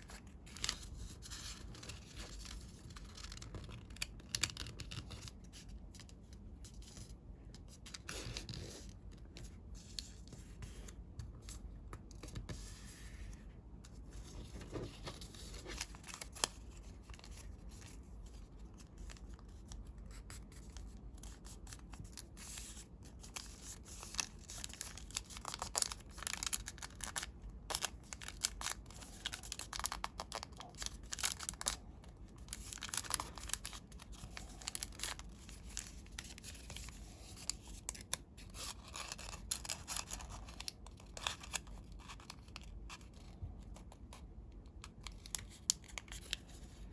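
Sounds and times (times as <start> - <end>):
paper rustling and crinkling: 0.0 - 44.2.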